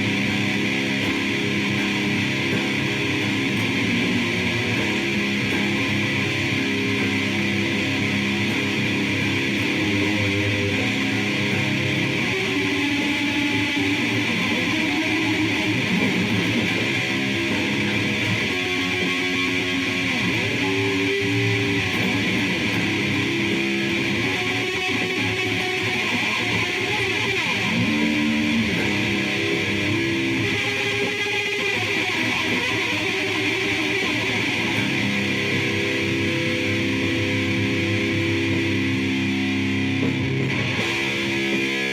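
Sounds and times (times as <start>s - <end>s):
electric guitar low notes: 0.0s - 41.9s.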